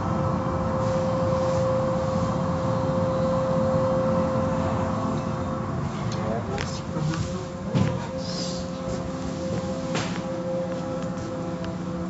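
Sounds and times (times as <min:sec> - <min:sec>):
car wash machinery running: 0:00.0 - 0:12.0.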